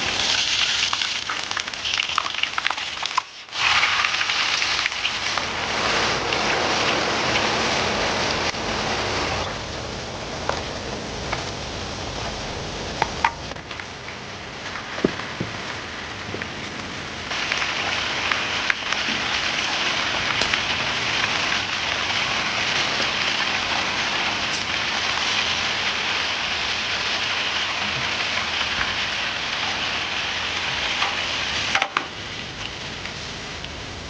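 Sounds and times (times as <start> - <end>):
sausages sizzling in oil: 0.0 - 11.4, 12.9 - 34.0.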